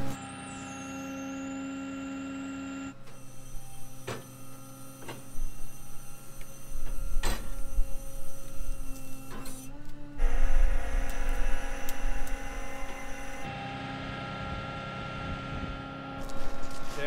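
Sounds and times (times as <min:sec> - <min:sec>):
winch humming: 0:00.0 - 0:16.3.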